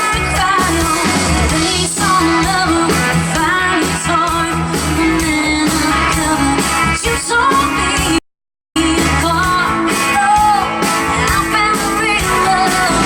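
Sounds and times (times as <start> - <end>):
bass guitar: 0.0 - 8.2, 8.8 - 13.0
drums: 0.0 - 8.2, 8.8 - 13.0
electric guitar: 0.0 - 8.2, 8.8 - 13.0
person singing: 0.0 - 8.2, 8.8 - 13.0.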